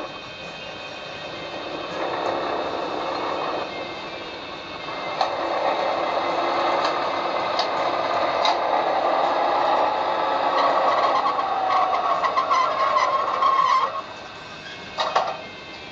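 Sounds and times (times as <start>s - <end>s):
model train mechanical hum: 0.0s - 15.9s.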